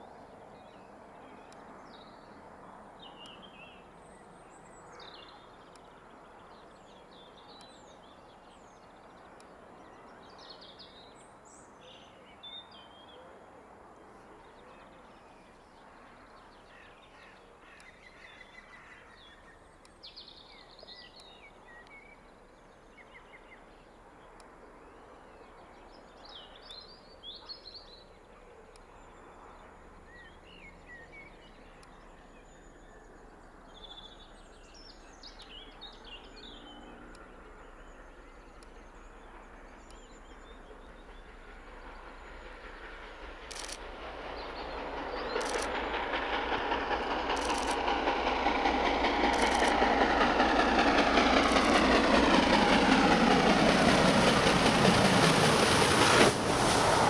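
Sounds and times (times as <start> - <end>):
low rumble of approaching train: 0.0 - 57.0.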